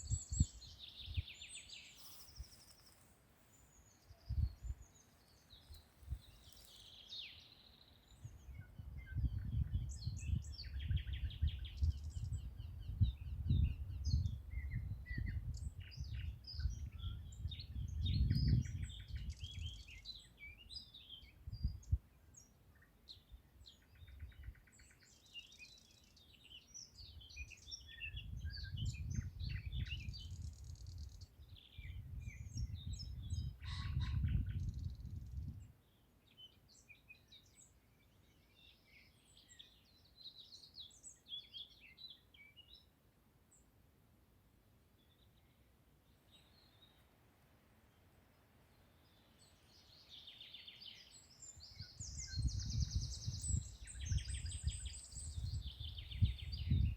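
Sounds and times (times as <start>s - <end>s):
songbirds singing and calling: 0.0s - 43.8s, 44.8s - 56.9s.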